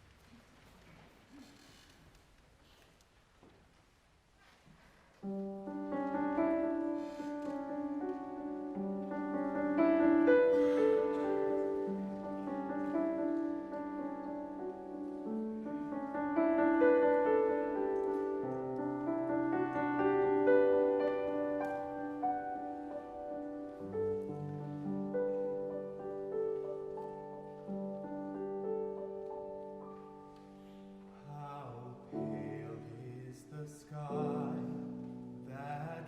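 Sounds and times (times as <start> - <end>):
piano playing held chords: 5.2 - 36.0.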